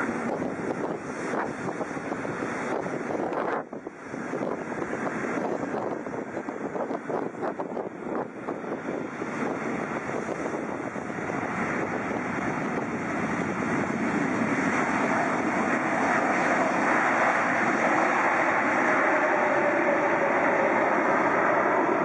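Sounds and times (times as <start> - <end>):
jet engines rushing rumble: 0.0 - 22.0.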